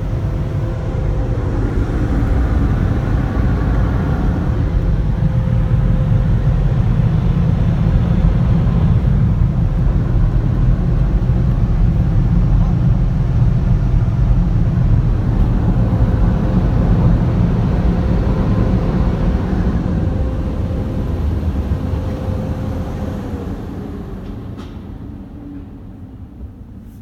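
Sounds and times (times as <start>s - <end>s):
car wash dryer blowers roaring: 0.0s - 27.0s
faint steady whine: 0.0s - 27.0s.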